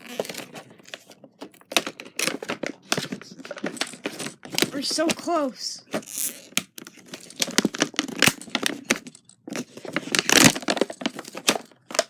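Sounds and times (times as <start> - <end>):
packaging ripping and crinkling: 0.0 - 12.0.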